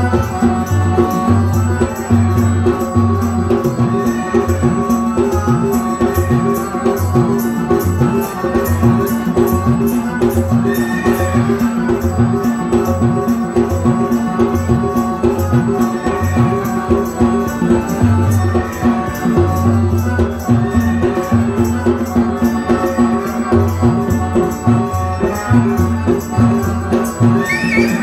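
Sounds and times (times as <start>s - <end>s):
jingling rattling percussion: 0.0s - 28.0s
sustained keyboard notes: 0.0s - 28.0s.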